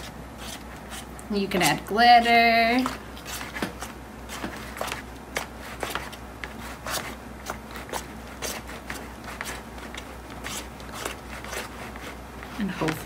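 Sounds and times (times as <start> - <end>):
utensil scraping plastic tub: 0.0 - 13.0.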